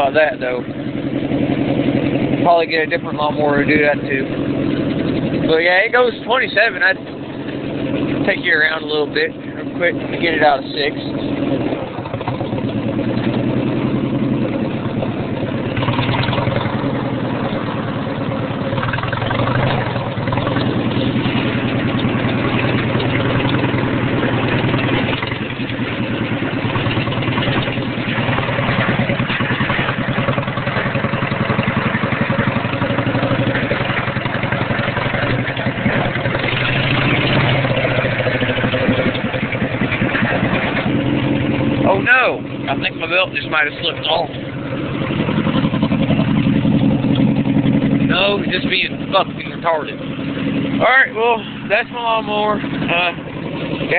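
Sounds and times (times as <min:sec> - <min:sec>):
loud lawn mower engine: 0:00.0 - 0:53.9.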